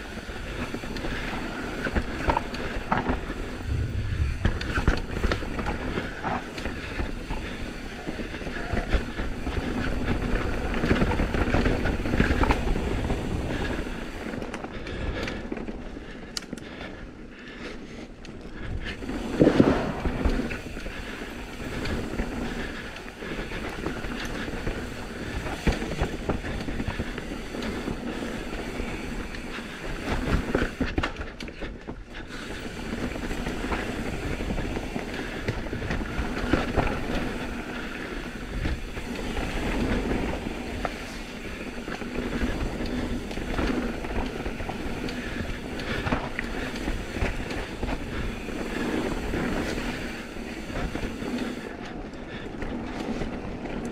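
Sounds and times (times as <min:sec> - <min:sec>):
bike tyres rolling on dirt: 0:00.0 - 0:53.9.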